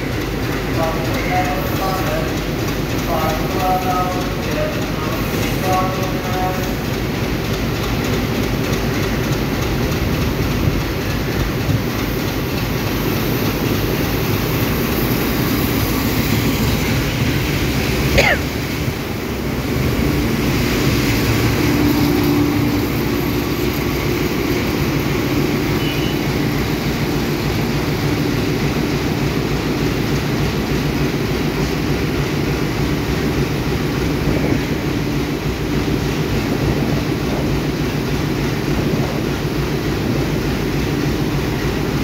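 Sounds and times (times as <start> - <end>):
diesel locomotive engine droning: 0.0 - 42.0.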